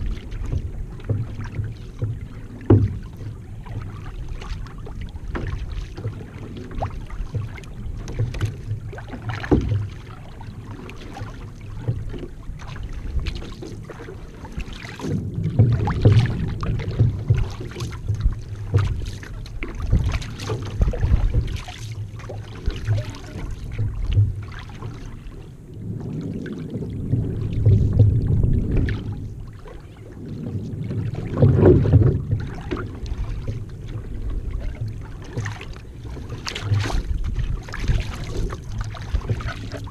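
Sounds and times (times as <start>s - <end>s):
paddle strokes splashing: 0.0s - 39.9s
water rushing along hull: 0.0s - 39.9s
wind rumble on microphone: 0.0s - 39.9s.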